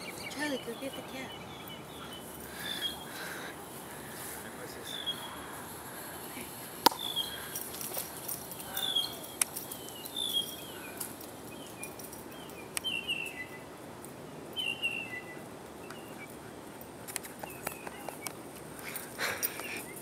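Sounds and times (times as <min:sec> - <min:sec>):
bird chirping: 0:00.0 - 0:16.5, 0:17.2 - 0:20.0.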